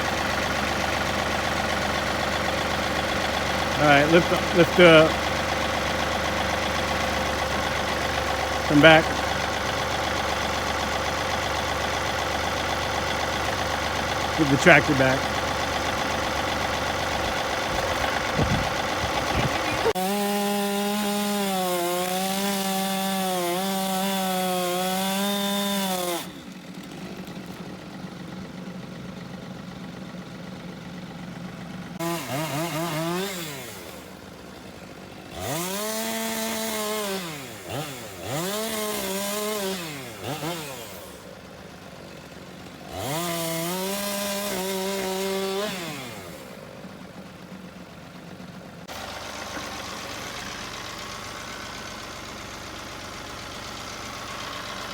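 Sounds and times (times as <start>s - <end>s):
chainsaw cutting wood: 0.0s - 30.0s, 31.6s - 48.2s, 48.8s - 54.9s.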